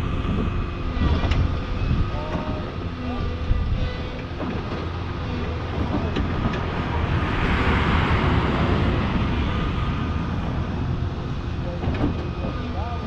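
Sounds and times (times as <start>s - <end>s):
excavator diesel engine rumbling: 0.0s - 13.0s
rushing noise: 0.0s - 13.0s.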